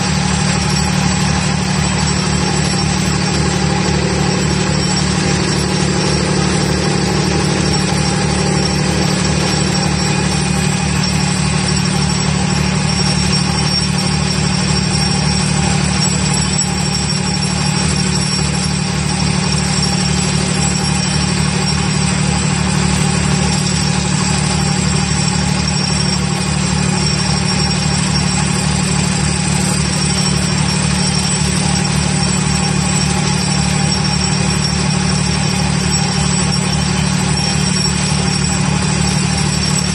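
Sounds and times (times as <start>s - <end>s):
vibratory pile-driving hammer: 0.0s - 39.9s.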